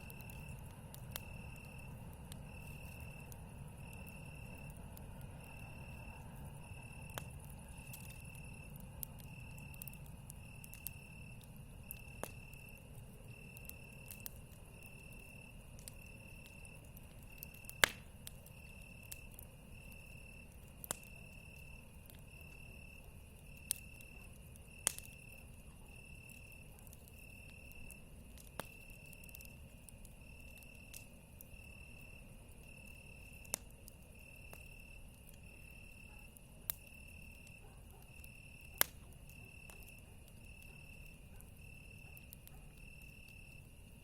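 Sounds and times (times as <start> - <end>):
campfire crackling pops: 0.0 - 44.0
crickets chirping: 0.0 - 44.0.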